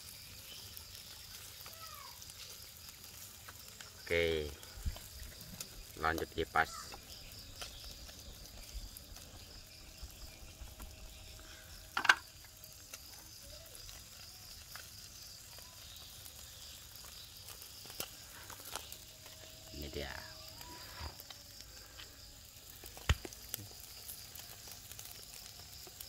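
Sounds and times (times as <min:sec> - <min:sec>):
charcoal crackling: 0:00.0 - 0:26.0
faint fish sizzling: 0:00.0 - 0:26.0
insect chirring: 0:00.0 - 0:26.0.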